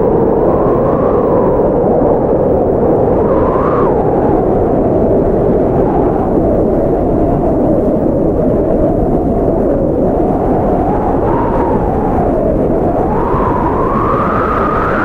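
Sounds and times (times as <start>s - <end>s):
blizzard wind whistling: 0.0s - 15.0s.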